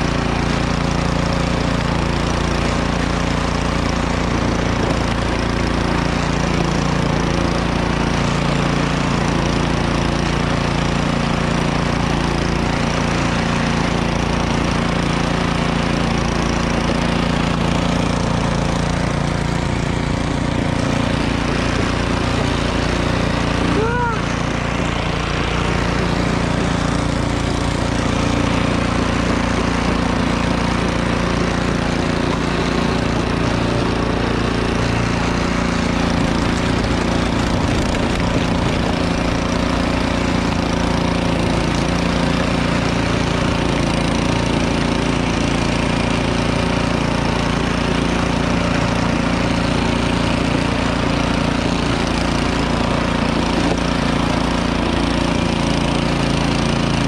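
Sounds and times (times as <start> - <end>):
auger churning snow: 0.0 - 57.0
snowblower engine running: 0.0 - 57.0.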